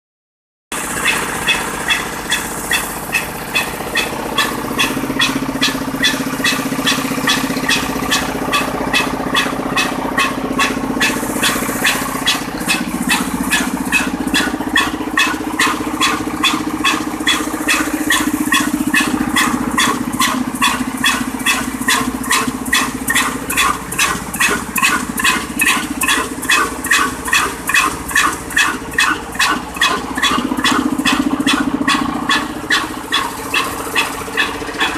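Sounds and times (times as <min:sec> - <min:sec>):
diesel engine chugging: 0:00.7 - 0:34.9.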